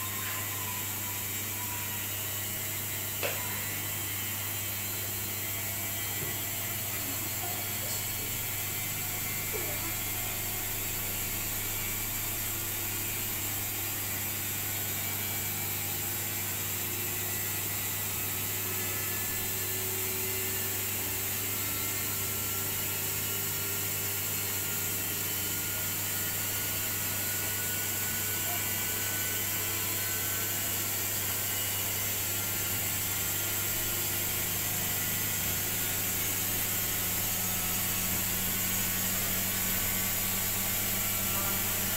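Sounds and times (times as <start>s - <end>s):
washing machine spinning: 0.0s - 41.9s.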